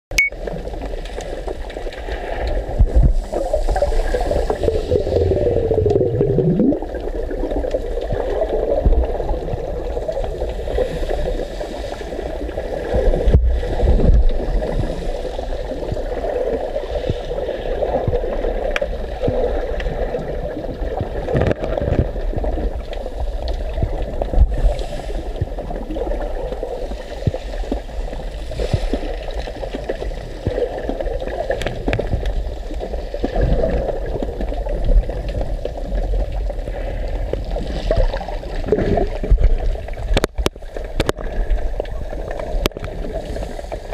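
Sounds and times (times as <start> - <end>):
low underwater rumble: 0.2 - 43.9
muffled underwater gurgling: 0.2 - 43.9.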